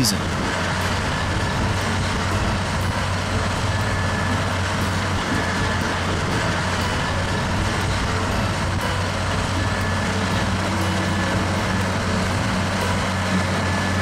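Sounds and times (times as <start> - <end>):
diesel engine drone: 0.0 - 14.0
low hum: 0.0 - 14.0.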